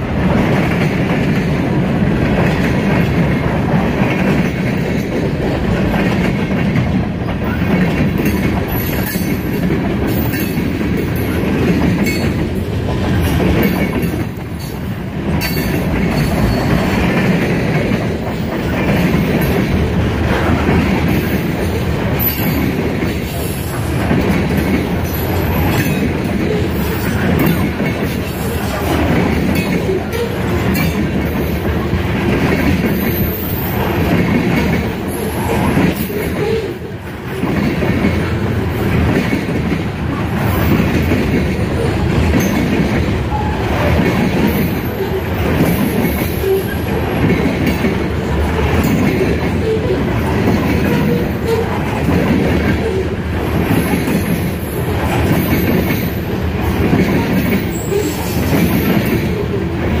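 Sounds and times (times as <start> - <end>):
steel wheels rumbling on rail: 0.0 - 60.0.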